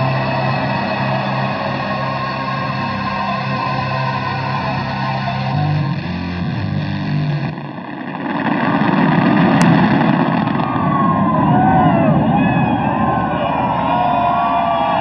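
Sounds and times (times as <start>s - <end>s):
loud even rushing noise: 0.0s - 13.1s.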